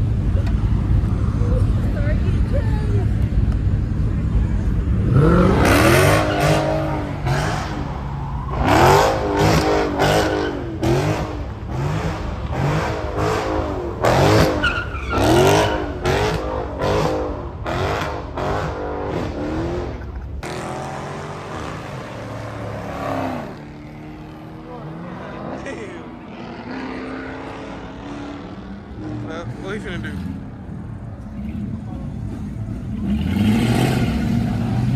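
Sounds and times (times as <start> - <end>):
car engines revving hard: 0.0 - 34.9.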